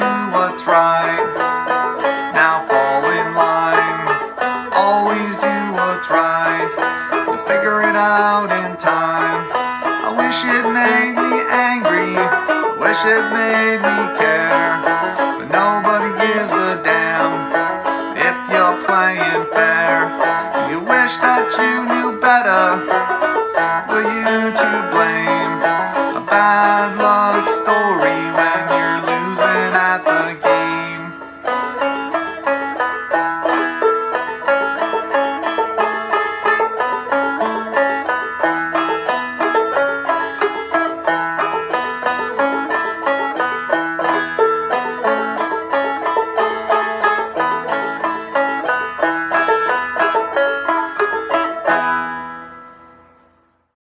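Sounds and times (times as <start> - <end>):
banjo clawhammer playing: 0.0 - 53.5.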